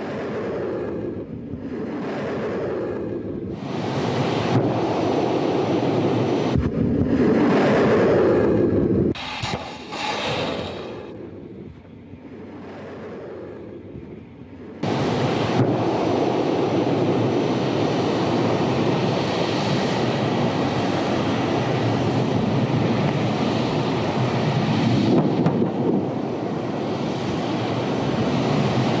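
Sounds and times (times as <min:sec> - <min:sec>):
loud steady roar: 0:00.0 - 0:29.0.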